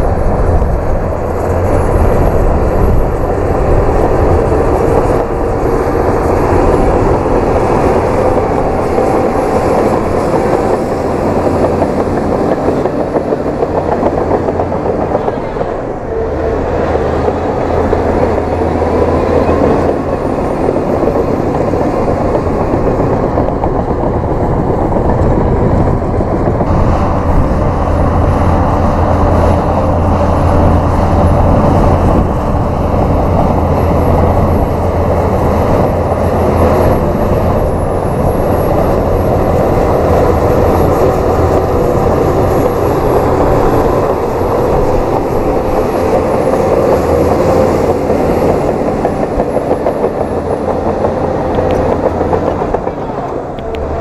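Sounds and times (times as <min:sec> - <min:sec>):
bulldozer engines and tracks rumbling: 0:00.0 - 0:54.0.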